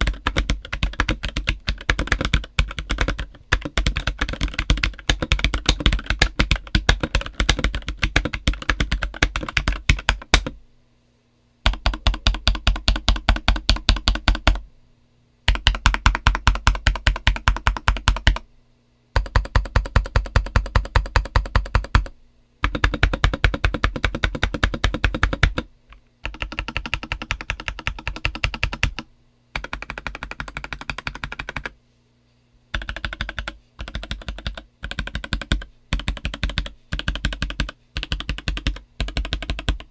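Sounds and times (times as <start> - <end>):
mechanical keyboard typing: 0.0 - 10.6, 11.7 - 14.6, 15.5 - 18.4, 19.2 - 31.8, 32.7 - 39.9.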